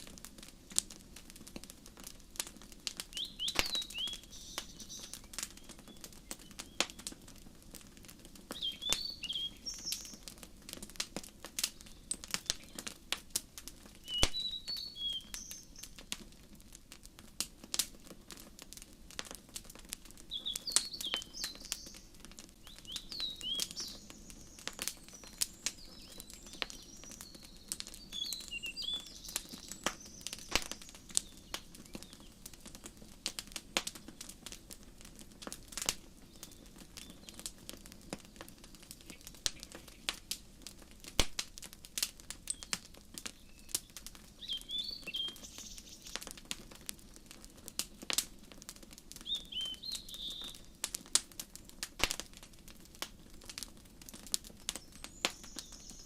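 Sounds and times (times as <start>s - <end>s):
wood fire crackling and popping: 0.0s - 56.0s
small birds chirping: 2.0s - 16.3s, 17.7s - 51.2s, 53.5s - 56.0s.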